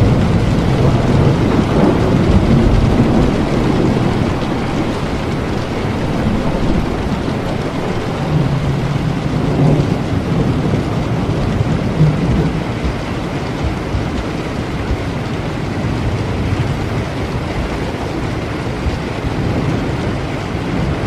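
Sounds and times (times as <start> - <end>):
heavy rain: 0.0 - 21.0
rolling thunder: 0.0 - 21.0.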